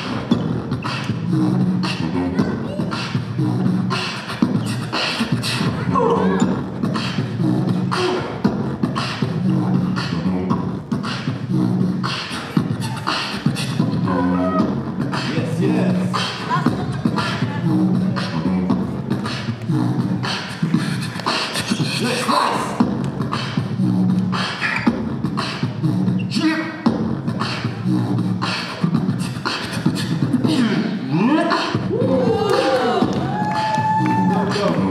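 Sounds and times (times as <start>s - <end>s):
beatboxing through microphones: 0.0s - 34.9s.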